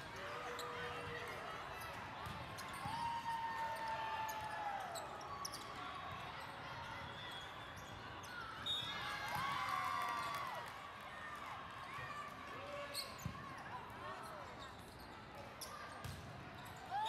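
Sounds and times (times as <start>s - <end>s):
voices of players and spectators: 0.0s - 17.0s.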